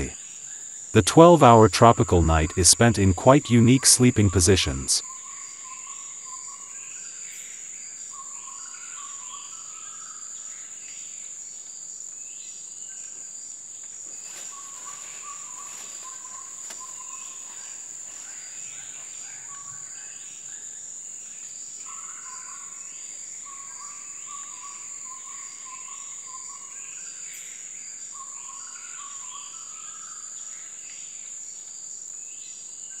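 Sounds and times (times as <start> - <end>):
faint pulsing insect trill: 0.0 - 0.9, 5.0 - 33.0
insects droning: 0.0 - 33.0.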